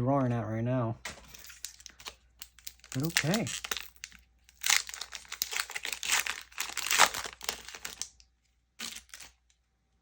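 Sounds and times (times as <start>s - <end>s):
foil wrapper crinkling: 1.3s - 9.4s.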